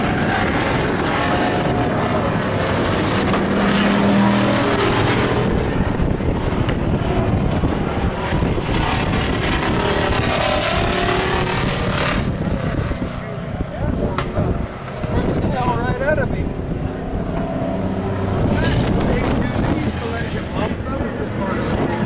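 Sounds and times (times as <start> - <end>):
truck passing loudly: 0.0 - 13.7, 15.9 - 22.0
race truck engines running: 0.0 - 22.0.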